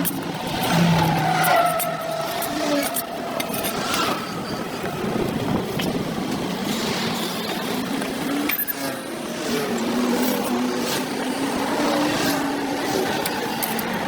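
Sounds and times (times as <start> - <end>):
highway traffic: 0.0 - 14.0.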